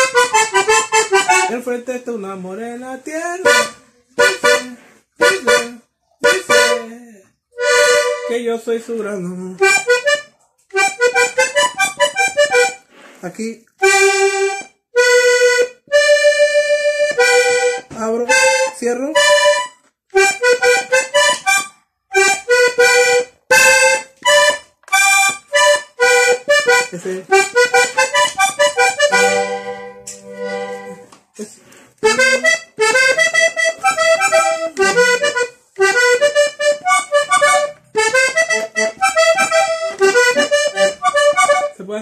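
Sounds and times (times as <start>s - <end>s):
button accordion melody: 0.0s - 42.0s.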